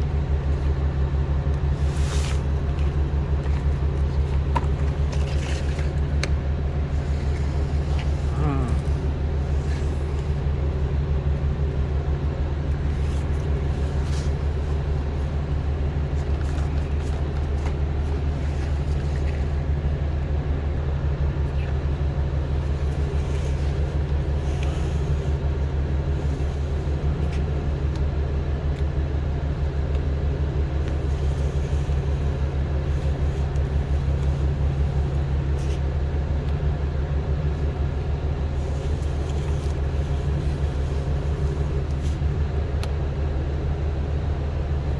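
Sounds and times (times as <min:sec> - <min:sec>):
engine rumbling steadily: 0:00.0 - 0:44.9.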